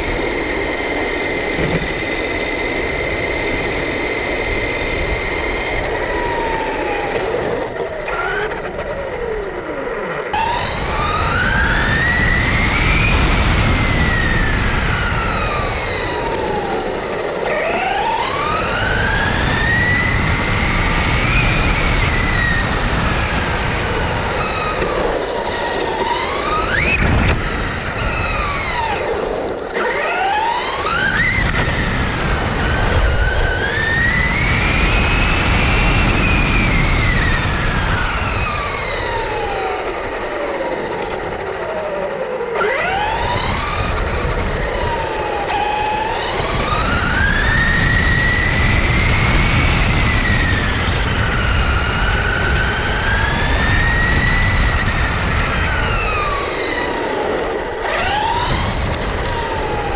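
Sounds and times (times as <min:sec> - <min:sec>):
electric motor whining: 0:00.0 - 0:59.9.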